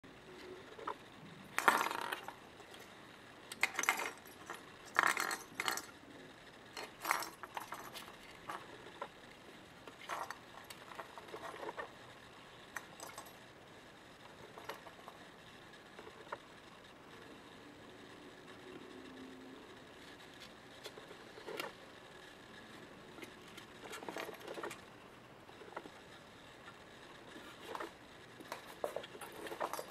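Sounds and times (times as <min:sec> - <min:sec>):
toy clattering and clinking: 0:00.4 - 0:06.0, 0:06.6 - 0:13.6, 0:14.3 - 0:16.6, 0:20.0 - 0:29.9.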